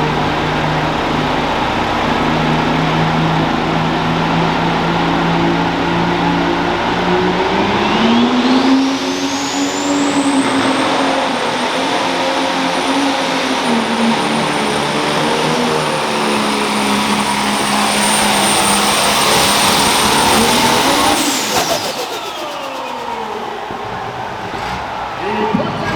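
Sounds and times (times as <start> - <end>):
high whine: 0.0 - 25.0
tractor engine under full load: 0.0 - 25.9.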